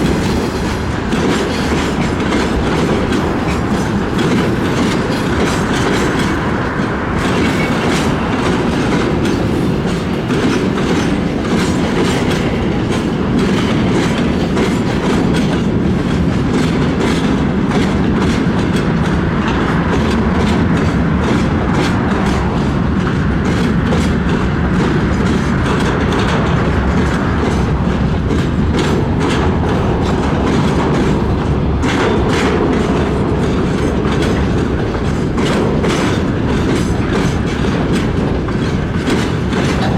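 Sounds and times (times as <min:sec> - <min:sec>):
train cars rolling past: 0:00.0 - 0:39.9
wheels clacking on rail joints: 0:00.0 - 0:39.9.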